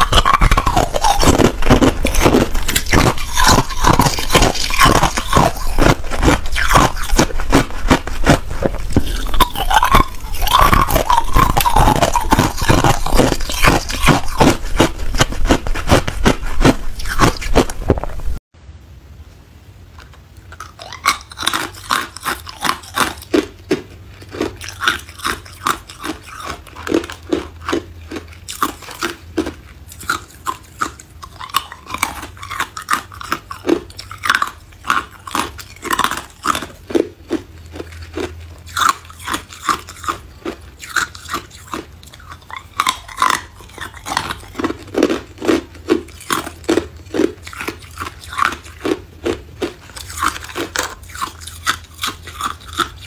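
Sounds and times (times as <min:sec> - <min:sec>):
person crunching ice: 0:00.0 - 0:18.4, 0:20.9 - 0:53.0.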